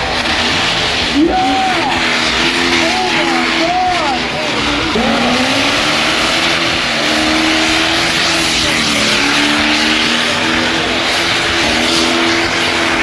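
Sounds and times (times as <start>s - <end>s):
engine at high revs: 0.0s - 13.0s
spinning tyres hissing: 0.0s - 13.0s.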